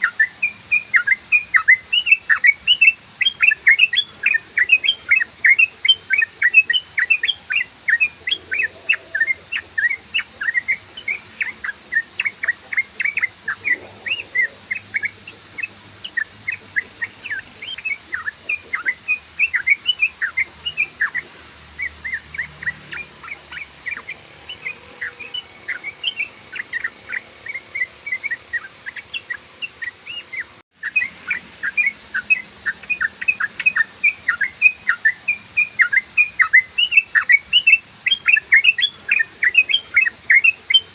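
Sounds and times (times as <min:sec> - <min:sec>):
bird singing bubbly chirps: 0:00.0 - 0:40.9.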